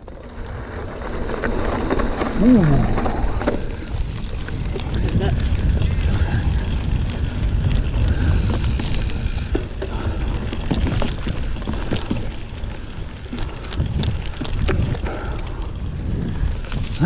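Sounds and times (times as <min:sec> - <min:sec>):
bike clicks and rattles: 0:00.0 - 0:17.0
wind rumbling on microphone: 0:00.0 - 0:17.0.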